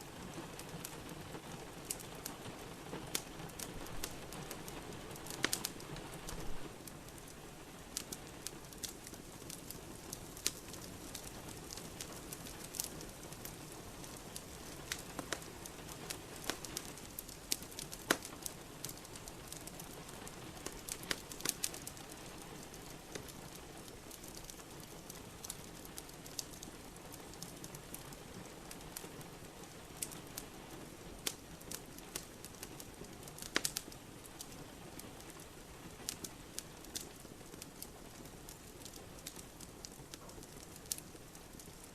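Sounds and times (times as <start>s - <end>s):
steady rain hiss: 0.0s - 41.9s
wood fire crackling and popping: 0.0s - 41.9s.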